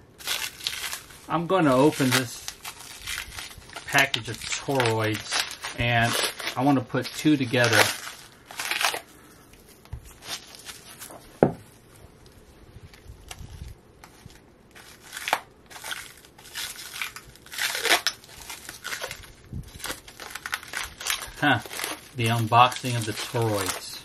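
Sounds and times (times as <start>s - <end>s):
plastic bag crinkling: 0.0s - 11.4s, 12.2s - 24.0s.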